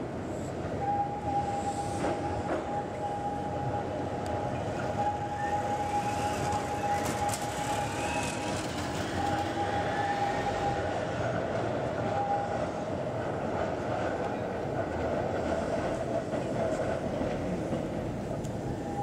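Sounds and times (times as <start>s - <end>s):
train high whine: 0.0s - 19.0s
train wheels rolling on rails: 0.0s - 19.0s.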